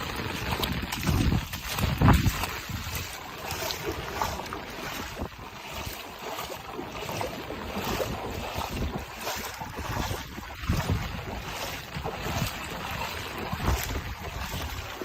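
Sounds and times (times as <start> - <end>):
wind gusting against microphone: 0.0 - 5.5, 7.8 - 15.0.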